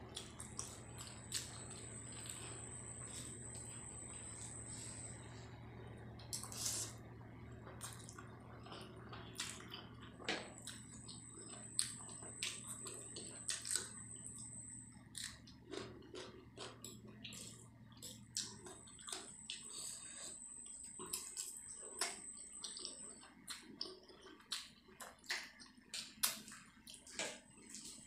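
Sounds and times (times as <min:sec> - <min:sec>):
faint high whine: 0:00.0 - 0:24.4.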